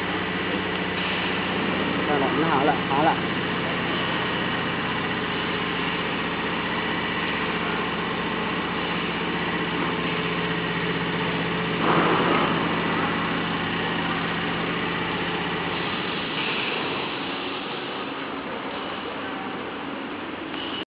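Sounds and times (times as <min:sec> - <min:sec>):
welding machine humming: 0:00.0 - 0:19.2.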